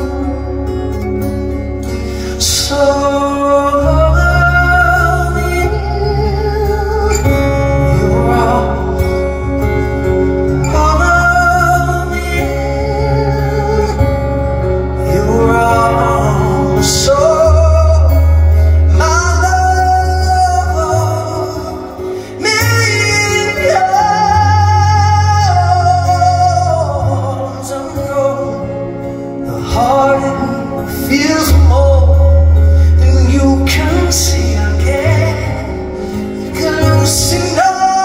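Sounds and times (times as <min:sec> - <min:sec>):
acoustic guitar: 0:00.0 - 0:38.0
deep sustained bass notes: 0:00.0 - 0:38.0
man singing a slow ballad: 0:00.0 - 0:38.0.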